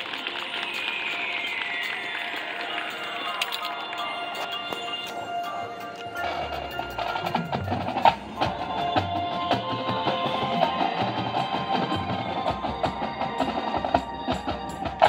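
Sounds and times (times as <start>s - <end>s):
drum and percussion strikes: 0.0s - 15.0s
marching band playing: 0.0s - 15.0s.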